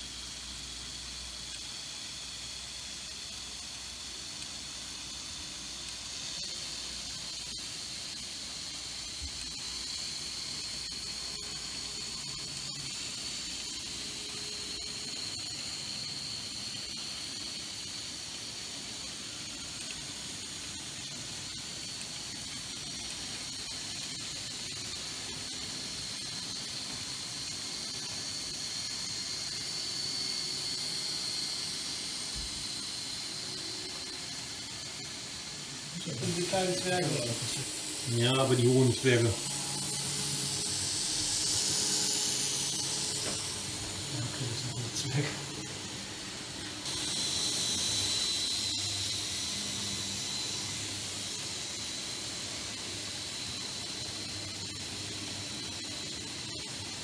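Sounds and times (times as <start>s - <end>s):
model trains hissing and whining: 0.0s - 57.0s.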